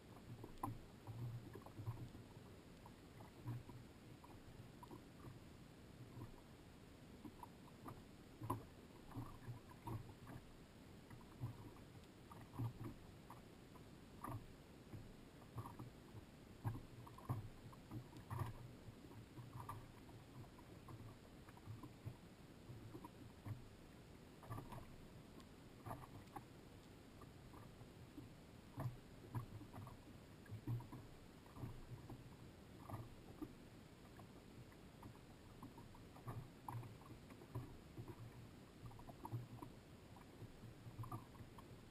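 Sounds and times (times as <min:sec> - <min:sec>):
waves lapping against boat hull: 0:00.0 - 0:41.9.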